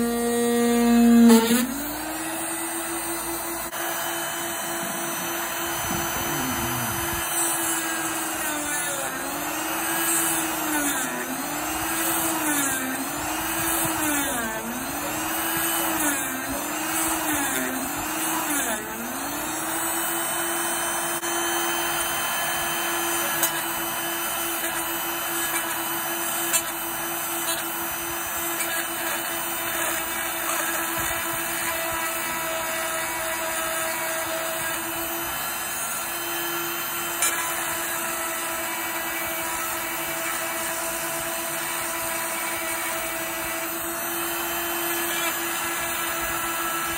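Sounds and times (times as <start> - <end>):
mini drill whining: 0.0 - 46.9.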